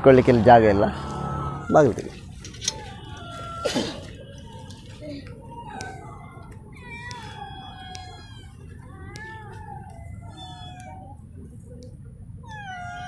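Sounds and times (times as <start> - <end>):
cats meowing: 0.8 - 11.8, 12.4 - 13.0.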